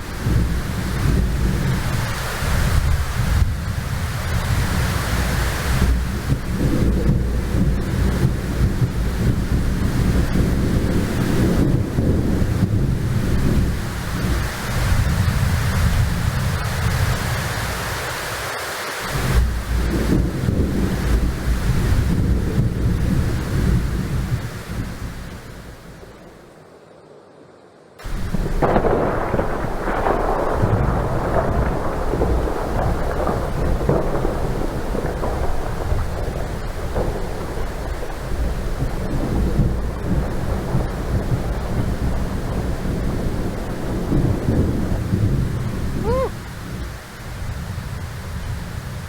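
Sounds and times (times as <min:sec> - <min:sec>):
wind buffeting microphone: 0:00.0 - 0:18.2, 0:19.1 - 0:26.4, 0:28.0 - 0:49.0
hurricane wind and rain: 0:00.0 - 0:49.0.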